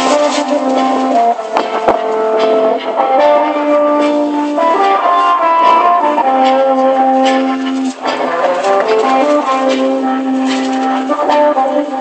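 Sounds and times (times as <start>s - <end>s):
live street music: 0.0s - 12.0s.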